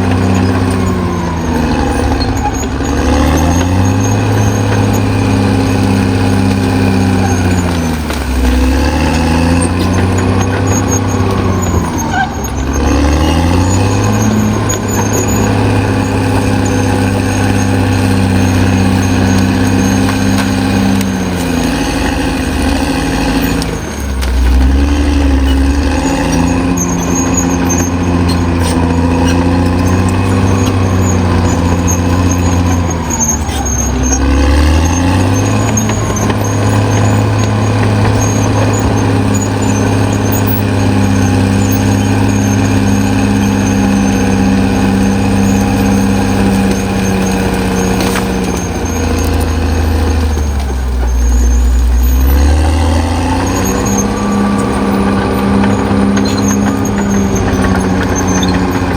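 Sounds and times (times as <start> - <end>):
bulldozer diesel engine labouring: 0.0 - 58.9.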